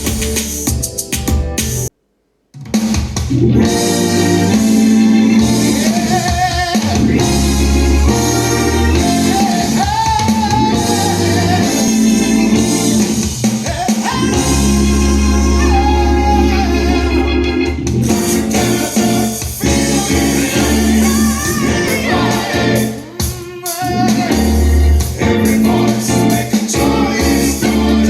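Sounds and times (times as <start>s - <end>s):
drums: 0.0s - 28.0s
guitar: 3.2s - 28.0s
sung melody: 3.5s - 28.0s.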